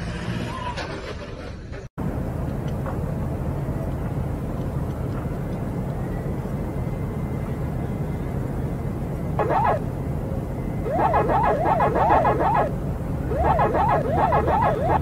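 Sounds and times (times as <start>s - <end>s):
vehicle noise rumble: 0.0s - 15.0s.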